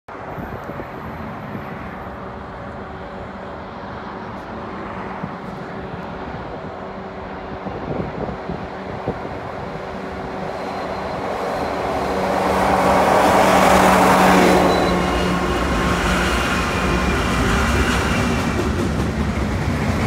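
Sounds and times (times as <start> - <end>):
diesel locomotive rumble: 1.0 - 20.0.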